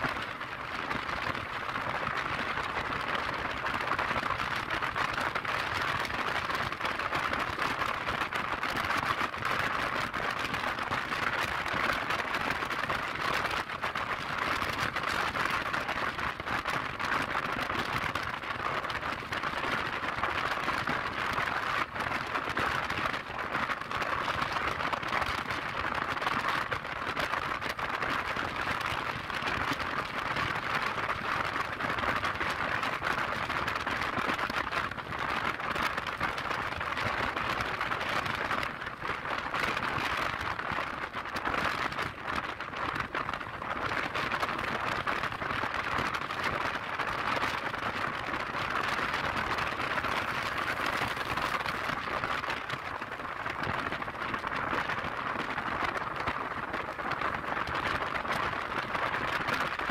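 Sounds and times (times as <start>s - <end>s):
wind rushing on microphone: 0.0s - 59.9s.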